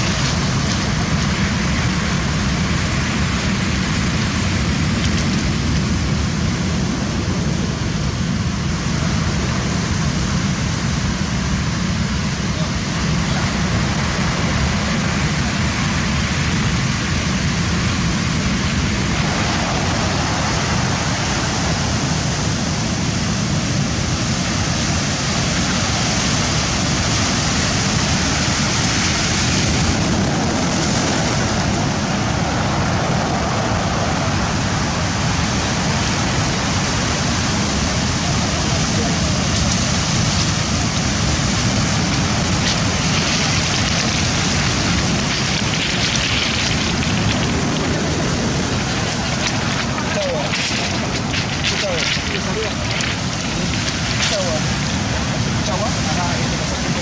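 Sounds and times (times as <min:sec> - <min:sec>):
waves breaking and washing: 0:00.0 - 0:57.0.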